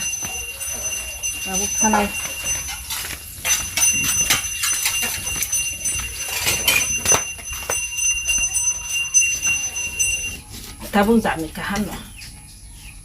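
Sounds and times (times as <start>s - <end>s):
metal utensils clinking on pot: 0.0s - 12.0s
faint high ringing: 0.0s - 13.0s.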